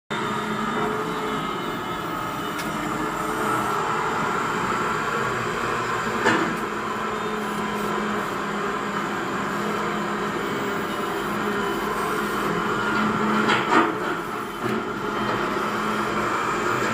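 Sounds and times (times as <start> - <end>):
model excavator mechanical drone: 0.1 - 16.9.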